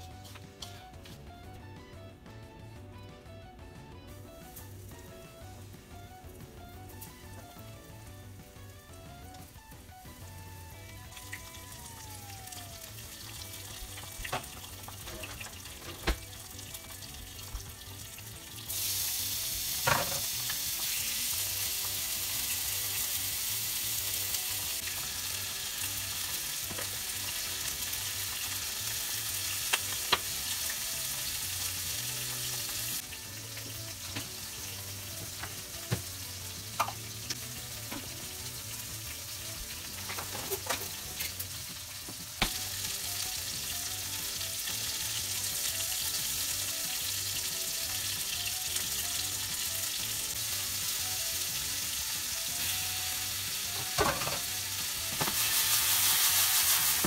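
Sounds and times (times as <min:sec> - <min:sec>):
oil sizzling: 0:00.0 - 0:02.4, 0:03.4 - 0:57.0.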